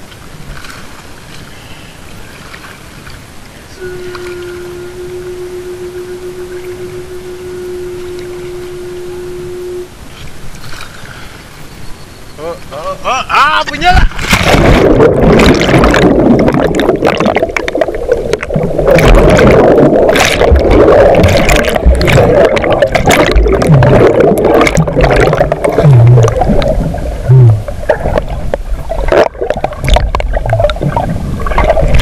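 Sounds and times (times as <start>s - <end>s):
muffled underwater churning: 0.0s - 11.8s, 13.8s - 32.0s.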